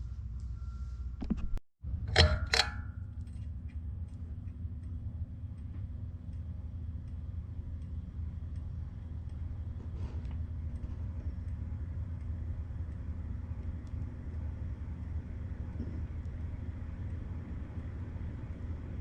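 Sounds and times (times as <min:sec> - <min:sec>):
ceiling fan motor hum: 0:00.0 - 0:19.0
faint fan ticks: 0:02.4 - 0:19.0.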